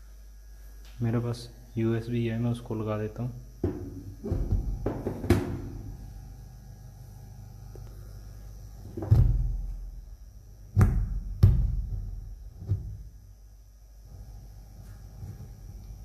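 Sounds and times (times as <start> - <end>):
low speaker hum: 0.0 - 16.0.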